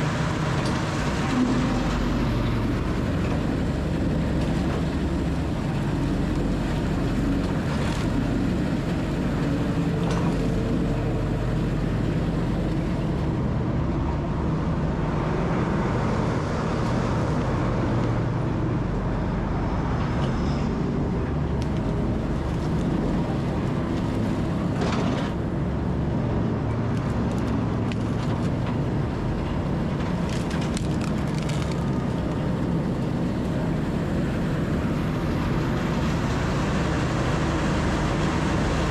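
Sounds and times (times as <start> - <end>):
heavy machine rumble: 0.0 - 38.9.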